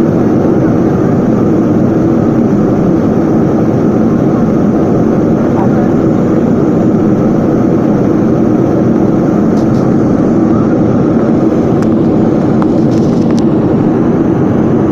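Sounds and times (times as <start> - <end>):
airplane engines roaring: 0.0 - 14.9.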